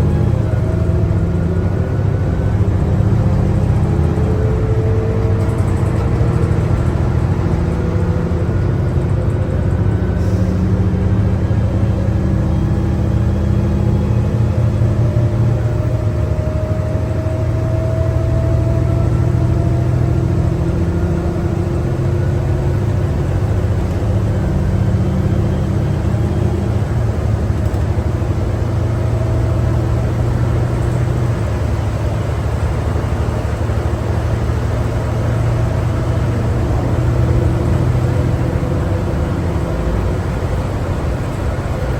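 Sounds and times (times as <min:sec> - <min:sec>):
bus engine drone with whir: 0:00.0 - 0:41.9.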